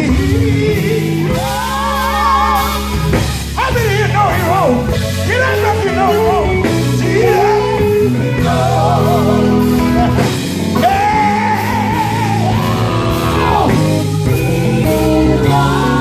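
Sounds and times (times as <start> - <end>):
lead singer singing: 0.0 - 16.0
loud amplified band: 0.0 - 16.0.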